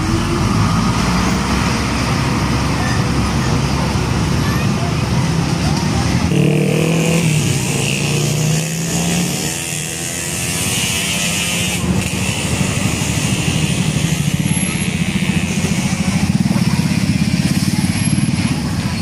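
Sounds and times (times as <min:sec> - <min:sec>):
road traffic: 0:00.0 - 0:19.0
vehicle engine passing close: 0:00.0 - 0:19.0.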